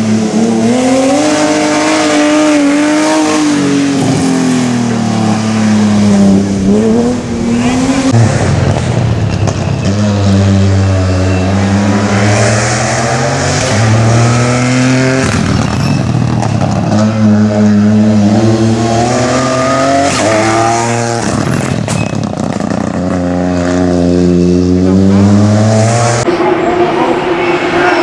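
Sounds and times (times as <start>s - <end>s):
rally car engine accelerating hard: 0.0s - 28.0s.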